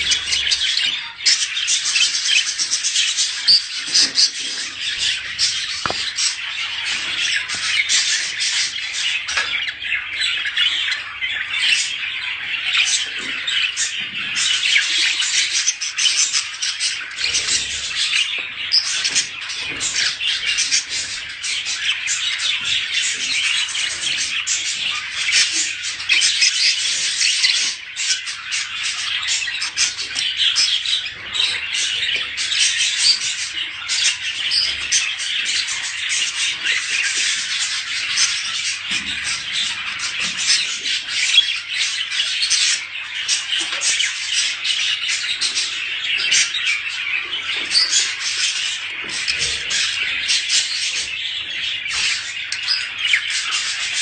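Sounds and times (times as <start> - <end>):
budgerigars chattering and squawking: 0.0 - 54.0.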